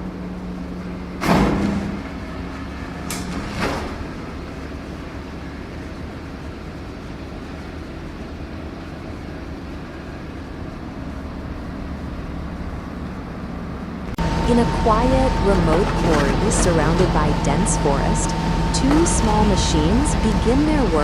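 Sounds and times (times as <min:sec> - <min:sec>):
heavy equipment engine droning: 0:00.0 - 0:21.0.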